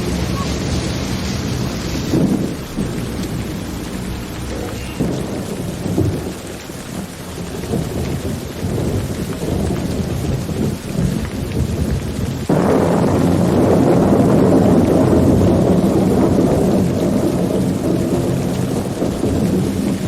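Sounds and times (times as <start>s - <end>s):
rain falling: 0.0s - 20.0s
rolling thunder rumble: 0.0s - 20.0s.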